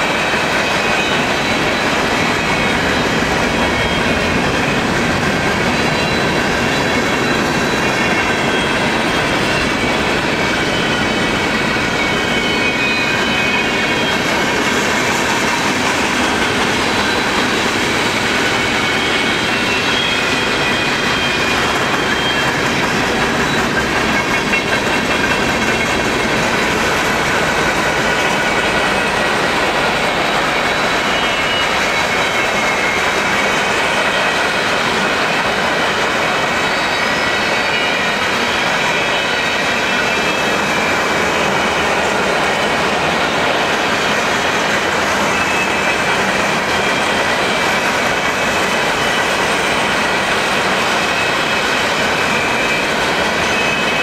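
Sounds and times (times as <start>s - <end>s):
train wheels rumbling on rails: 0.0s - 54.0s
high-pitched wheel squeal: 0.2s - 54.0s.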